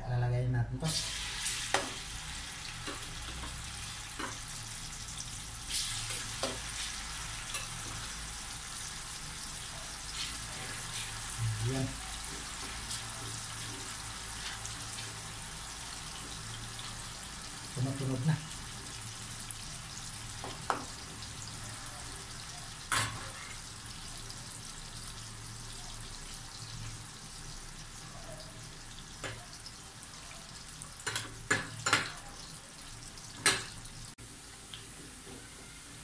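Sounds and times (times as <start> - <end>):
banana slices sizzling in oil: 0.8 - 36.0.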